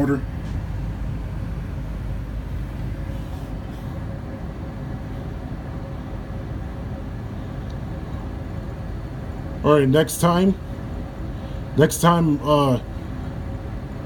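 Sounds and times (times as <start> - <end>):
gas furnace blower humming: 0.0 - 14.0.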